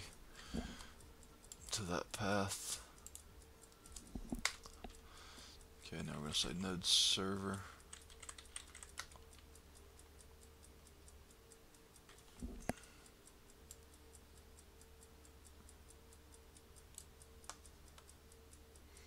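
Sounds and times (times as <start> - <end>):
faint regular ticking: 0.0 - 19.0
low steady hum: 0.0 - 19.0.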